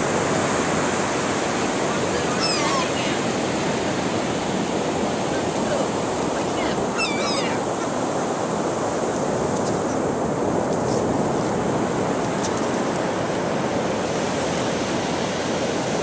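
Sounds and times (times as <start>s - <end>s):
ocean surf breaking: 0.0s - 16.0s
wind: 0.0s - 16.0s.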